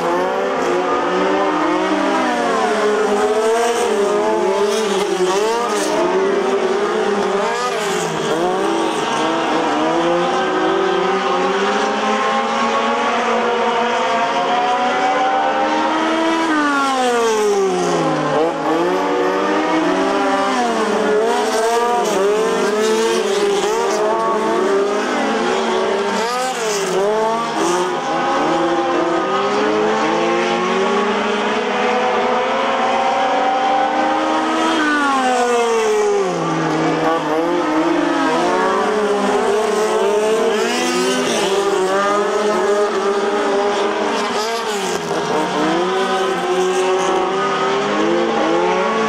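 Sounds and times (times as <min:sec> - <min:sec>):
race car engines revving: 0:00.0 - 0:49.0.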